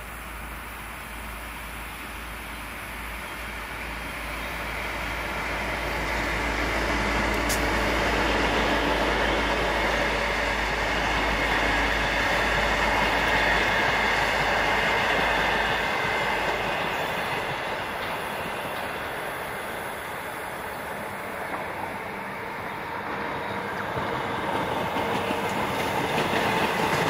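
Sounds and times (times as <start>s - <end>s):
train wheels running on rails: 0.0s - 27.0s.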